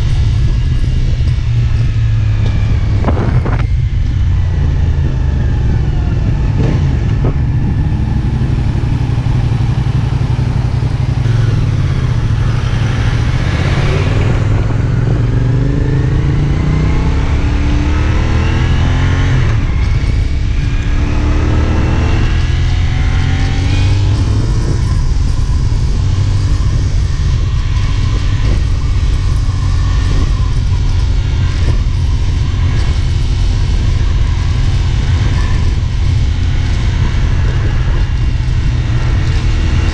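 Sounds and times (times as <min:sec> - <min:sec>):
motorcycle engine running: 0:00.0 - 0:39.9
wind rush at microphone: 0:00.0 - 0:39.9.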